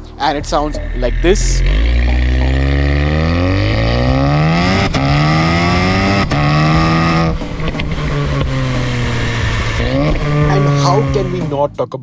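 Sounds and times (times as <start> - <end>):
car exhaust under hard acceleration: 0.0 - 11.6
exhaust cracks at gear shifts: 0.4 - 11.4.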